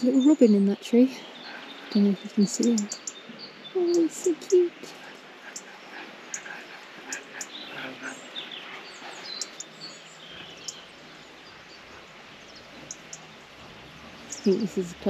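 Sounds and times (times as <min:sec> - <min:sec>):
faint outdoor background hiss: 0:00.0 - 0:15.0
songbirds chirping: 0:00.0 - 0:15.0.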